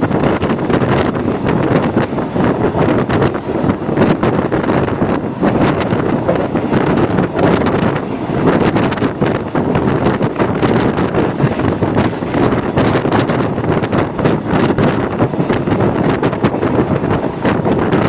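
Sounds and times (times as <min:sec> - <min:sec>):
train rumbling on track: 0:00.0 - 0:18.0
wind buffeting microphone: 0:00.0 - 0:18.0.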